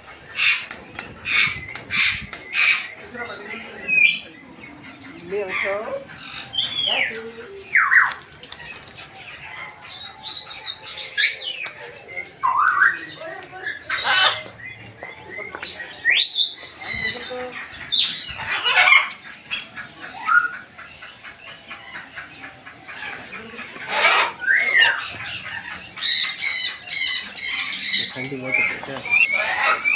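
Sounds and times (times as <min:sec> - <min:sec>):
parrots squawking: 0:00.0 - 0:29.9.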